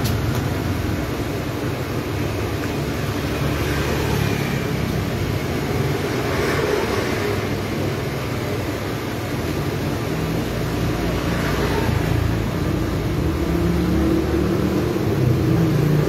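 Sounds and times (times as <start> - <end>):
motorbike passing: 0.0 - 16.0
traffic engine hum: 0.0 - 16.0.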